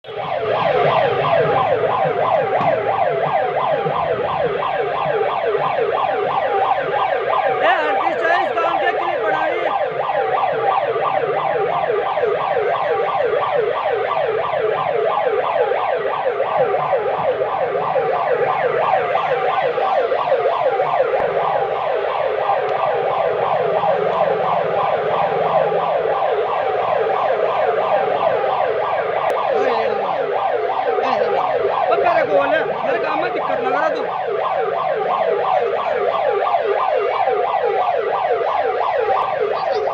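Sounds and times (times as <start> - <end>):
siren yelping: 0.0 - 39.9.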